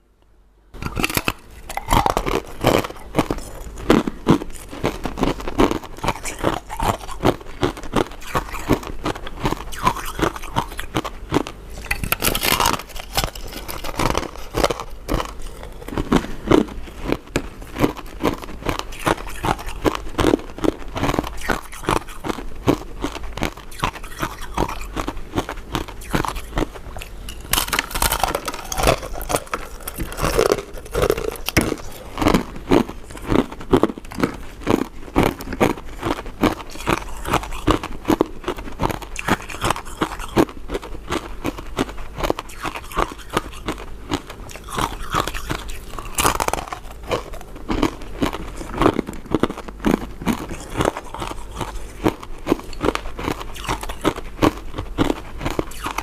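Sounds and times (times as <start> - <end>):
person biting and chewing sweets: 0.8 - 56.0.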